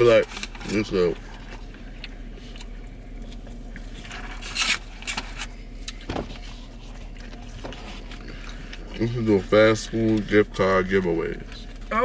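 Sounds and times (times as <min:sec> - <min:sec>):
car cabin engine hum: 0:00.0 - 0:12.0
eating and drinking noises: 0:00.0 - 0:12.0.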